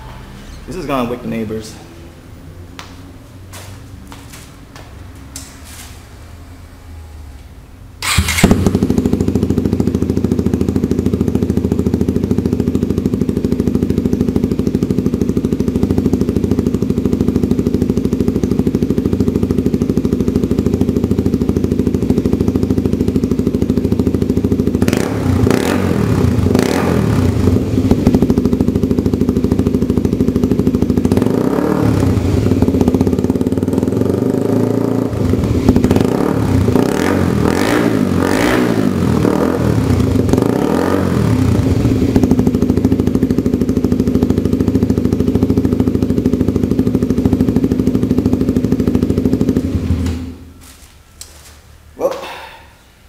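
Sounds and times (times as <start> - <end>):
motorcycle engine idling and revving: 0.0 - 52.7.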